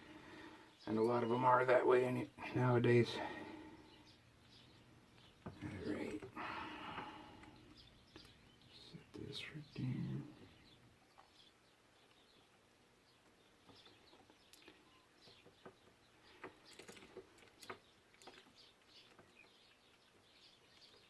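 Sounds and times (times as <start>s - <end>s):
faint bird chirps: 0.1s - 21.0s.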